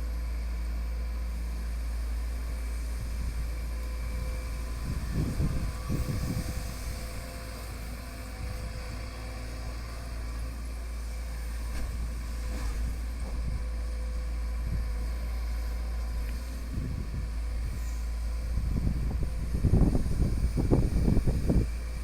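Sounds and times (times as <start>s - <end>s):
excavator diesel engine drone: 0.0s - 22.0s.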